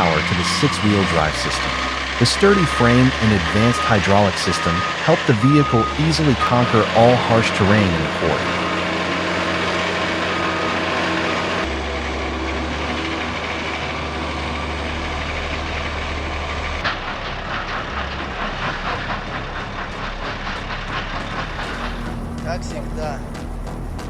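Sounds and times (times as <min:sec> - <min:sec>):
heavy machinery engines running: 0:00.0 - 0:24.0.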